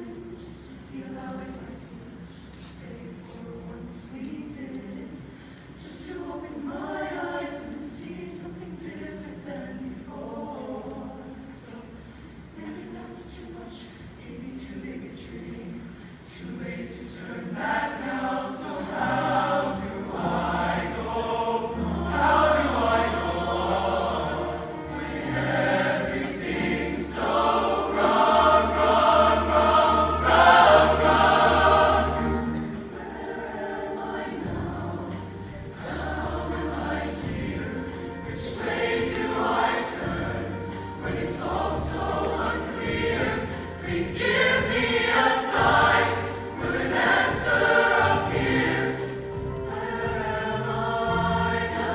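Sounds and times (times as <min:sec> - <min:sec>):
choir singing: 0:00.0 - 0:12.0, 0:12.6 - 0:51.9.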